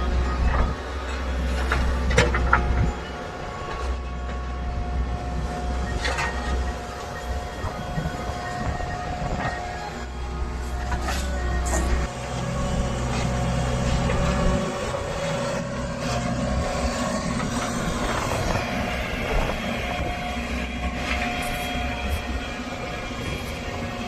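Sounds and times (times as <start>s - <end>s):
backhoe diesel engine running: 0.0s - 24.0s
heavy low drone: 0.0s - 24.0s
steady high whine: 1.6s - 24.0s.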